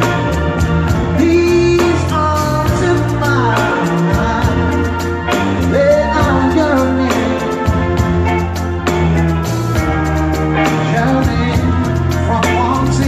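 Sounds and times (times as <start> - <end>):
bass guitar: 0.0 - 13.0
drum kit beat: 0.0 - 13.0
person singing: 0.0 - 13.0.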